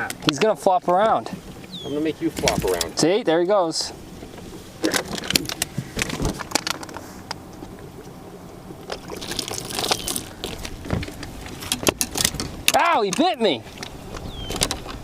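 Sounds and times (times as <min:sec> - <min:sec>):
snake thrashing on boat: 0:00.0 - 0:15.0
water sloshing: 0:00.0 - 0:15.0.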